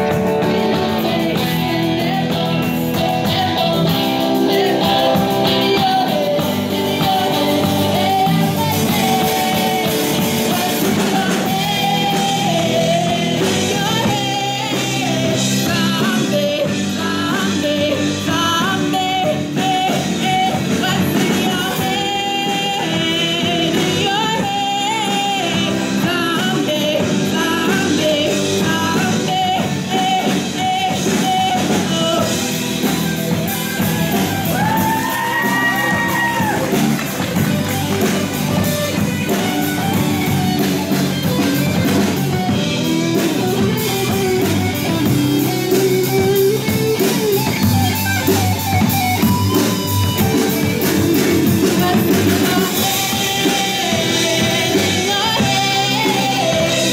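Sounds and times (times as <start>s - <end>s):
drum kit: 0.0s - 56.9s
electric guitars: 0.0s - 56.9s
girl singing lead: 0.0s - 56.9s.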